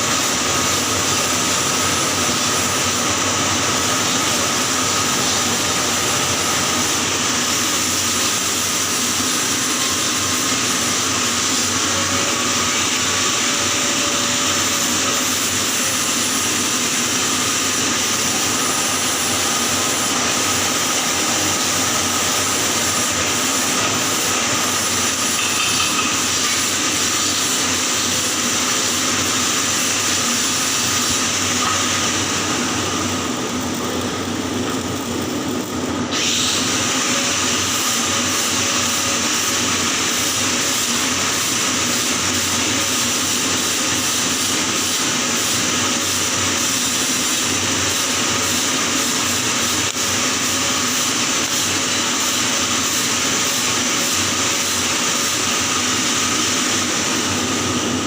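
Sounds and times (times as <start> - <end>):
arc welding hiss: 0.0 - 58.0.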